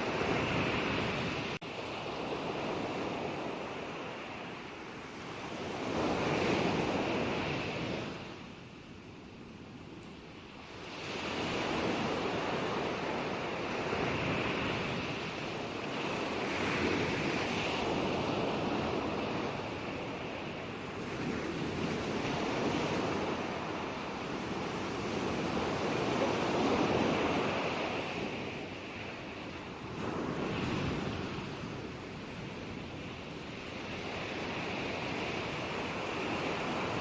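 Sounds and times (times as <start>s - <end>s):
ocean waves breaking on shore: 0.0s - 37.0s.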